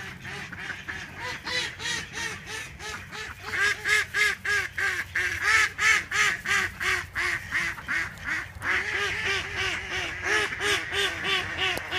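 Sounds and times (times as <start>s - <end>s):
ducks quacking: 0.0s - 11.9s.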